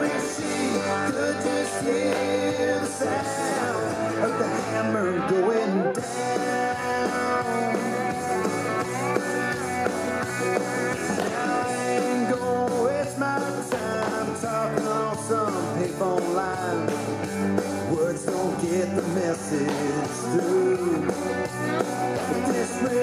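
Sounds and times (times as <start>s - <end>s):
country-rock song: 0.0s - 23.0s.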